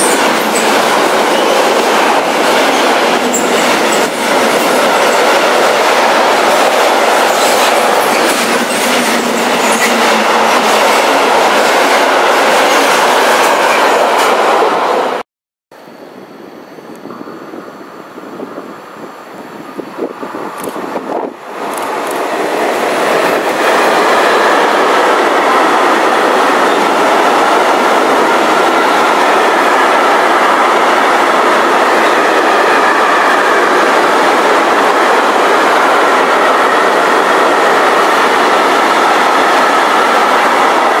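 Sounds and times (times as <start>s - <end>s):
freight train passing: 0.0s - 15.2s, 15.8s - 41.0s.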